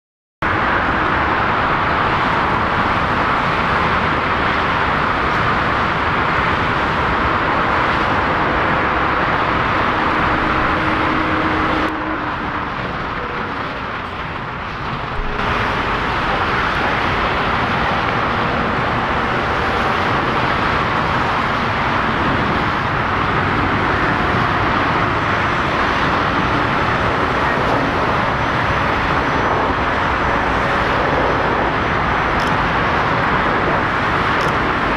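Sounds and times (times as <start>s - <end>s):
jet aircraft rushing noise: 0.4s - 34.9s.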